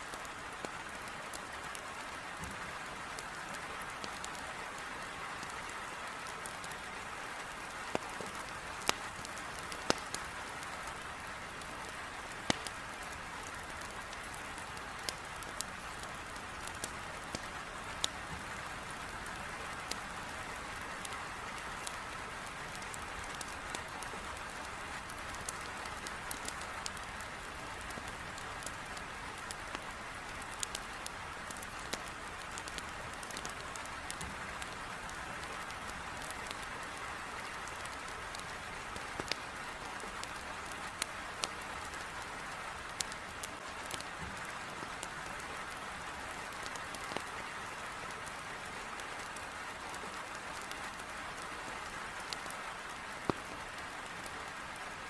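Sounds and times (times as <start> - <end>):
heavy rain against a window: 0.0 - 55.0
wood logs crackling in fireplace: 0.0 - 55.0.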